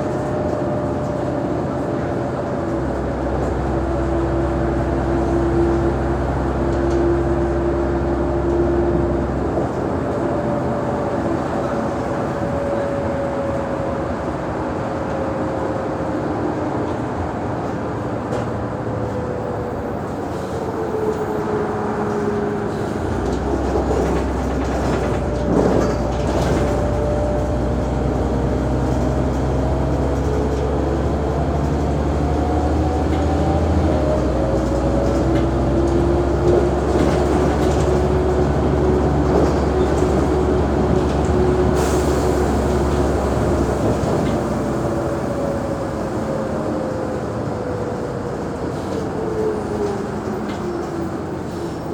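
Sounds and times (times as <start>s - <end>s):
bus drivetrain whine: 0.0s - 51.9s
bus engine low rumble: 0.0s - 51.9s.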